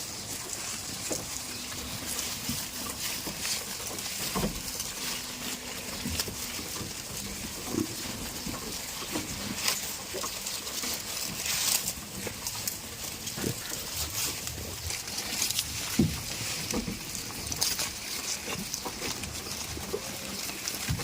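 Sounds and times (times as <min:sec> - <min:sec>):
goats snorting: 0:00.0 - 0:21.0
rustling and clicking: 0:00.0 - 0:21.0.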